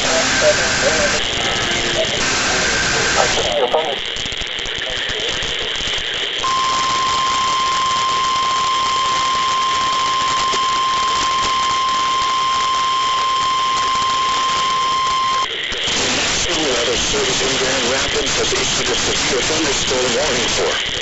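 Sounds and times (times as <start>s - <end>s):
steady high alarm tone: 0.0s - 4.6s, 6.4s - 20.8s
radio hiss: 0.0s - 21.0s.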